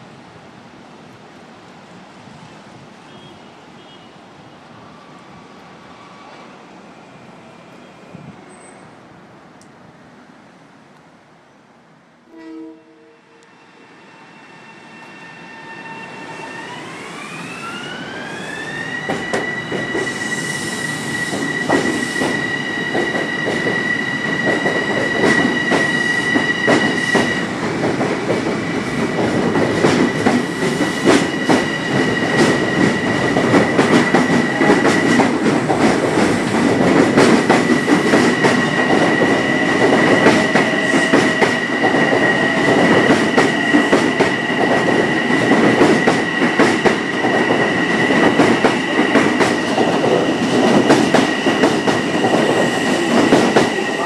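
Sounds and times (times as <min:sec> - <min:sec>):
electric train passing: 0:04.3 - 0:10.7, 0:12.3 - 0:54.0.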